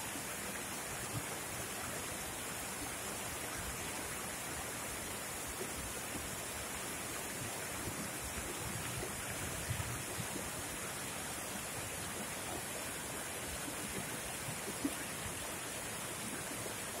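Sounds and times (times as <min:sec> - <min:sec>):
stream cascading over rocks: 0:00.0 - 0:17.0.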